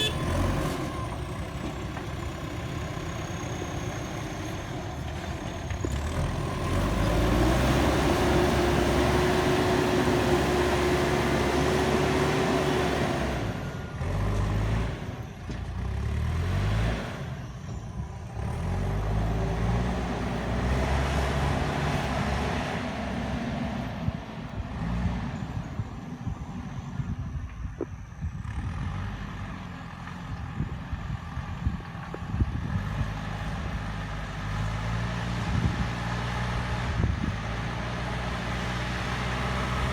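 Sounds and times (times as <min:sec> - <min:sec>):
diesel engine revving: 0:00.0 - 0:27.6, 0:28.2 - 0:39.9.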